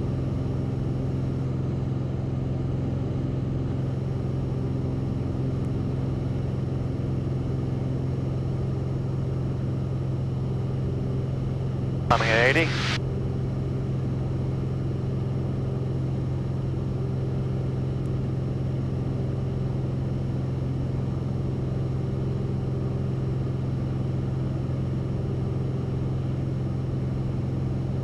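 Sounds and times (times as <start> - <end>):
propeller plane engine drone: 0.0 - 28.0.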